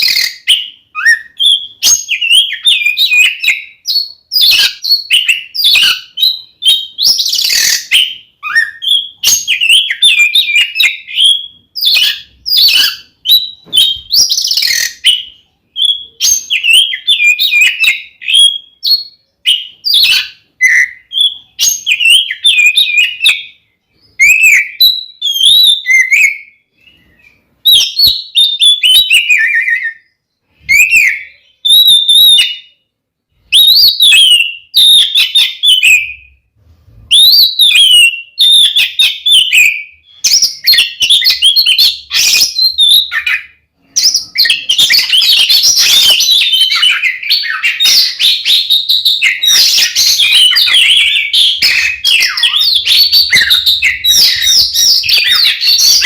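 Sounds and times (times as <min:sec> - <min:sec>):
songbird singing whistled phrases: 0:00.0 - 0:36.4, 0:37.1 - 0:56.0.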